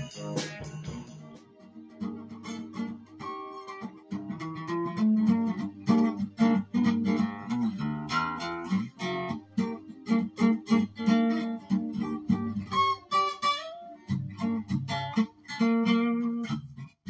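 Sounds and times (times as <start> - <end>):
plucked and strummed guitar music: 0.0 - 17.0.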